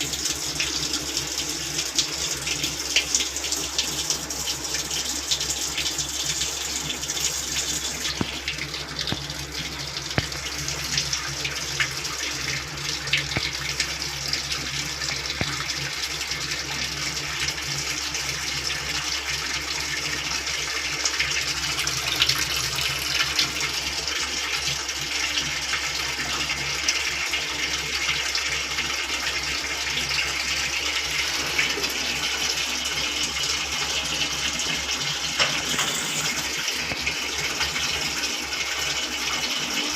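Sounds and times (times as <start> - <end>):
water running into washing machine: 0.0 - 39.9.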